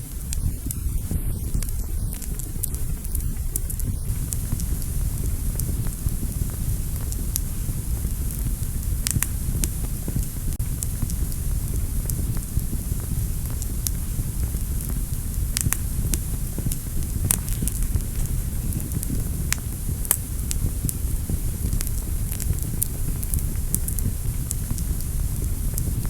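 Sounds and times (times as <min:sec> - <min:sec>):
fire crackles and pops: 0:00.0 - 0:26.0
fire rumbling in fireplace: 0:00.0 - 0:26.0.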